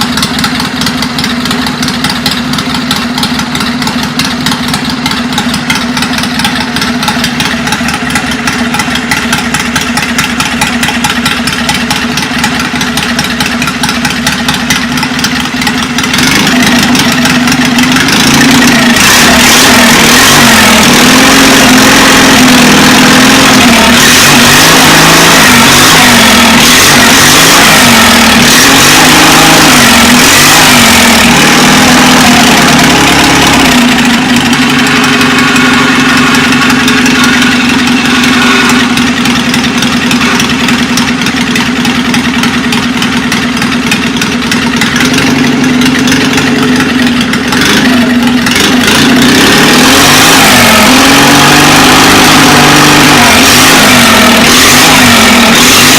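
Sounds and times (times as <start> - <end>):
tractor engine revving: 0.0 - 55.9.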